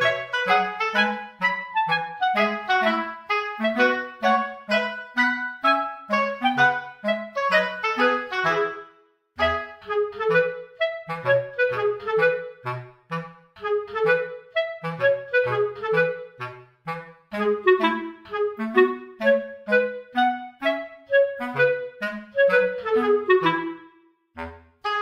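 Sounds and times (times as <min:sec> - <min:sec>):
bouncy woodwind melody: 0:00.0 - 0:25.0.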